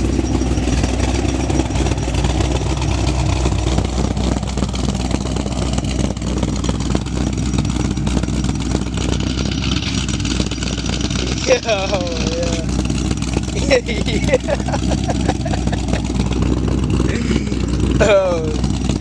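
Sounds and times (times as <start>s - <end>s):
loud car engine running: 0.0s - 19.0s.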